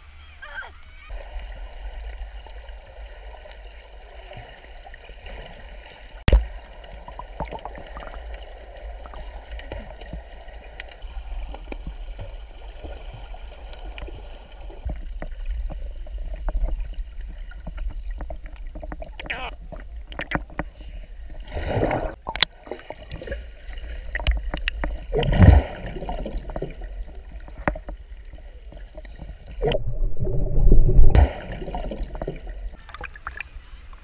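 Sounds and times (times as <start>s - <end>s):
muffled underwater rumble and gurgling: 1.0s - 34.0s.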